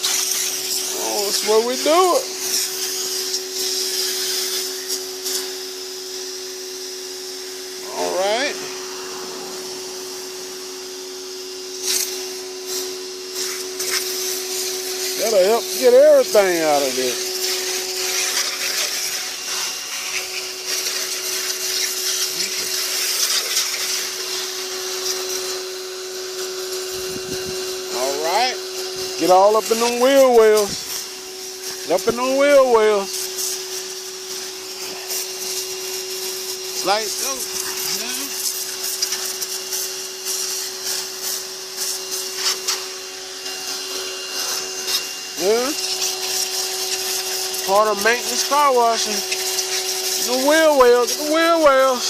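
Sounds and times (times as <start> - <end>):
pressure washer pump whining: 0.0 - 52.0
water jet hissing: 0.0 - 52.0.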